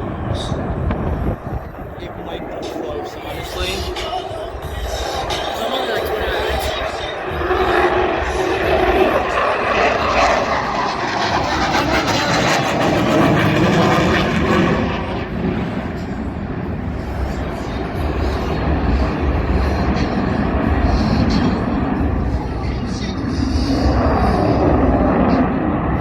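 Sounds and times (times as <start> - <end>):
jet engines roaring past: 0.0 - 26.0.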